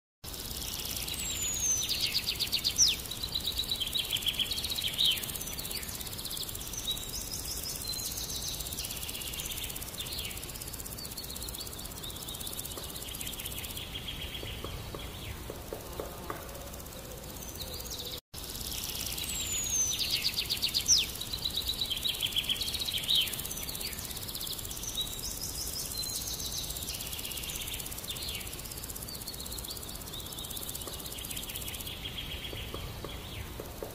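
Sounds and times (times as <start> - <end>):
outdoor background hiss: 0.2 - 33.9
songbirds chirping and trilling: 0.3 - 33.9.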